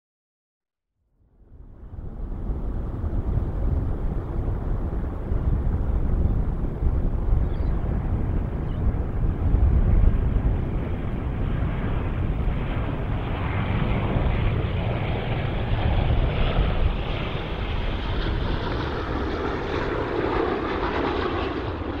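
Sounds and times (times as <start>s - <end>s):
jet engines rumbling: 1.4s - 22.0s.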